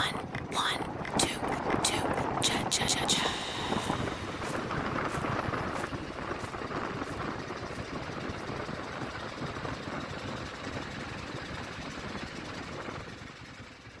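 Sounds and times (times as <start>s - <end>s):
motorboat engine running: 0.0s - 14.0s.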